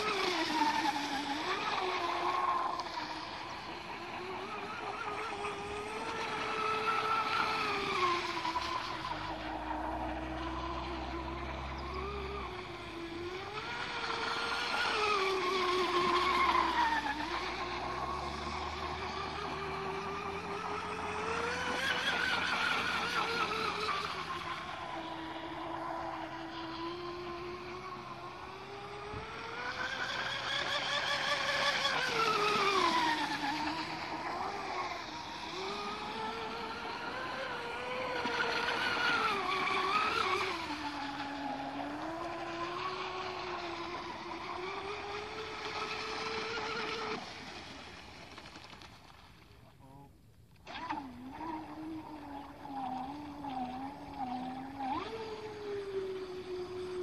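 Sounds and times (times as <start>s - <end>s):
electric motor boat whine: 0.0s - 57.0s.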